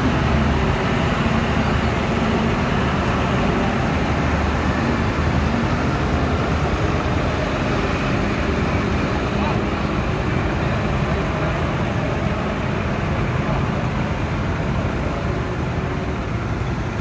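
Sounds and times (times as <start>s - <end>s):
trucks and motorcycles passing: 0.0s - 17.0s.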